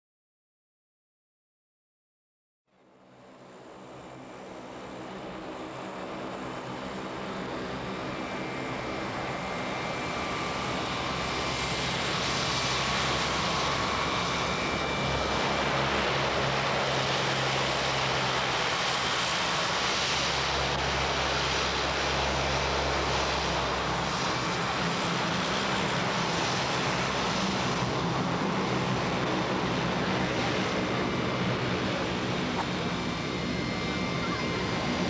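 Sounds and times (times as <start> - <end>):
turboprop engines running: 3.0 - 35.0
turbine whine: 3.7 - 35.0.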